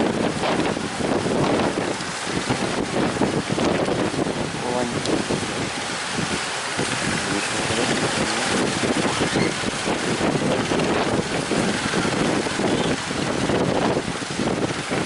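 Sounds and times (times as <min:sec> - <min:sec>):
rough sea surging: 0:00.0 - 0:15.0
wind buffeting microphone: 0:00.0 - 0:15.0.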